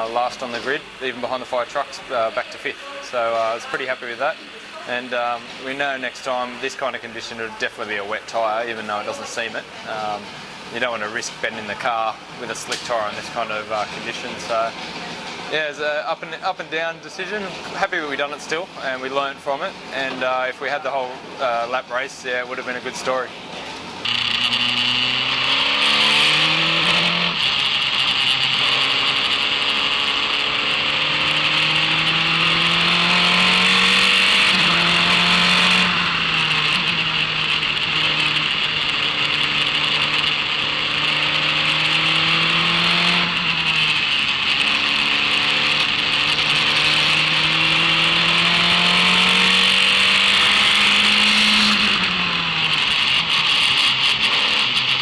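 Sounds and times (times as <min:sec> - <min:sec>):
race car engine revving: 0:00.0 - 0:15.4, 0:23.9 - 0:55.0.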